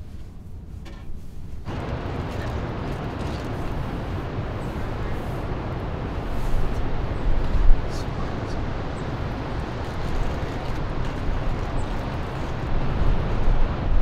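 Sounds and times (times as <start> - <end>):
wind: 0.0 - 14.0
ocean surf roaring: 1.6 - 14.0.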